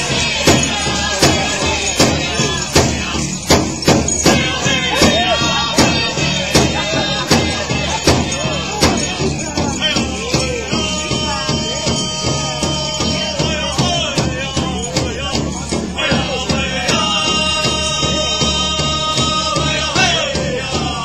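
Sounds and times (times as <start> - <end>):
drum group singing: 0.0 - 21.0
large drum beating: 0.0 - 21.0.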